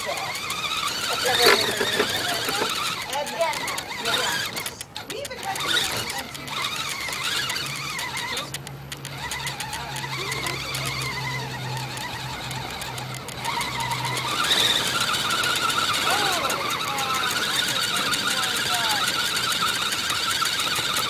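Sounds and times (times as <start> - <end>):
toy car motor whining: 0.0 - 21.0.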